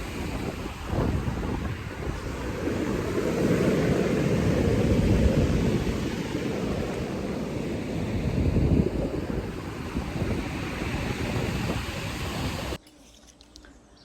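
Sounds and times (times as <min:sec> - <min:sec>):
wind on microphone: 0:00.0 - 0:12.8.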